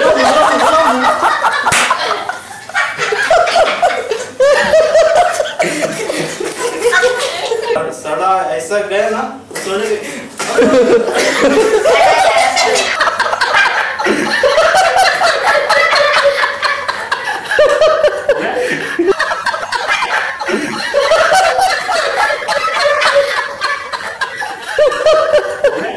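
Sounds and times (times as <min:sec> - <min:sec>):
group of people laughing: 0:00.0 - 0:07.8, 0:10.2 - 0:25.9.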